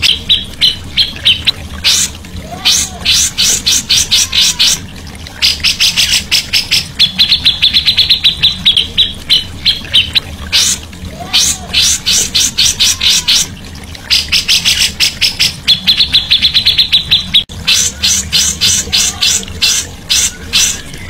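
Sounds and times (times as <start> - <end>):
songbirds chattering and chirping: 0.0 - 21.0.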